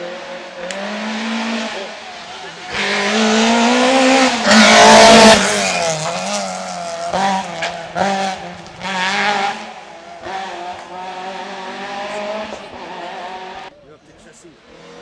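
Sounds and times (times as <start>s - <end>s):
car engine revving: 0.0s - 13.8s, 14.5s - 15.0s
rally car passing: 0.0s - 15.0s.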